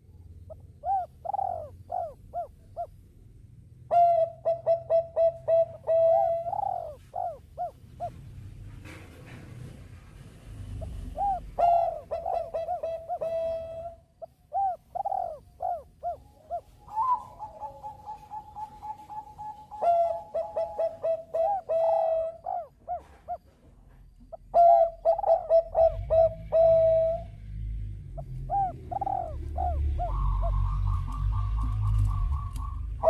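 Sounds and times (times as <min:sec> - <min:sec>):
dove cooing: 0:00.0 - 0:03.0, 0:03.9 - 0:08.3, 0:10.7 - 0:23.5, 0:24.2 - 0:27.4, 0:28.1 - 0:33.0.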